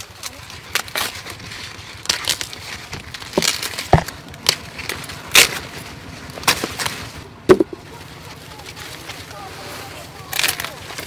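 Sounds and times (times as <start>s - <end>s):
corn ears snapping: 0.0s - 11.0s
corn leaves rustling: 0.0s - 11.0s.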